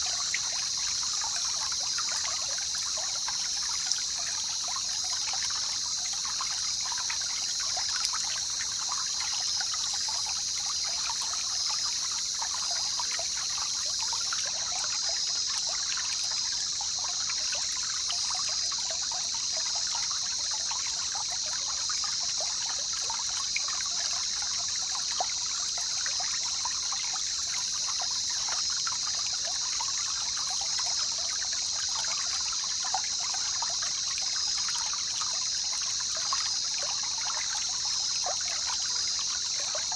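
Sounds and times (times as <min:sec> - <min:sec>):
trickling river water: 0:00.0 - 0:39.9.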